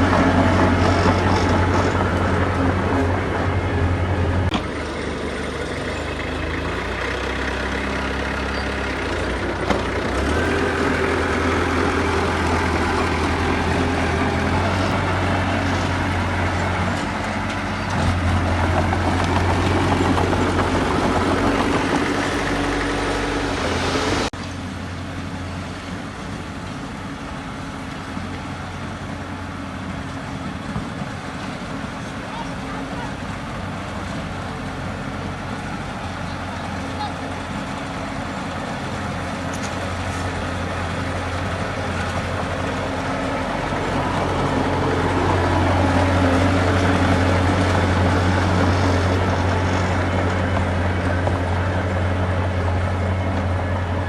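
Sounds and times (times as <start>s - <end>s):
heavy diesel engines under load: 0.0s - 54.0s.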